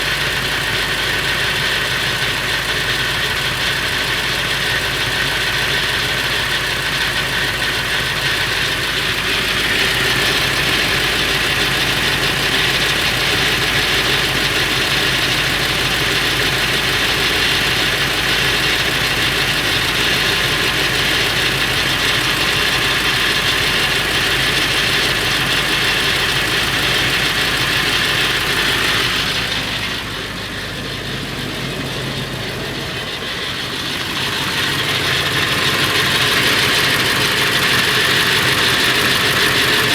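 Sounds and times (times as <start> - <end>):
diesel engine idling with rattle: 0.0 - 39.9.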